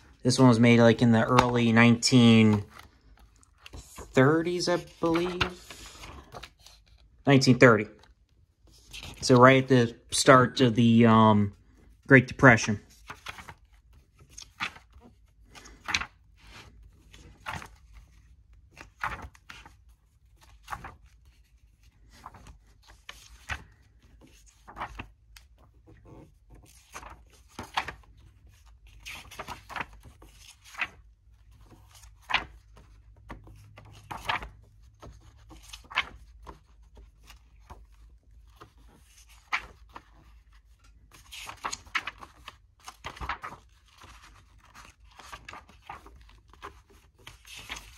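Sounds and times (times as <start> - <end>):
book pages turning: 0.0 - 9.7, 10.8 - 47.9.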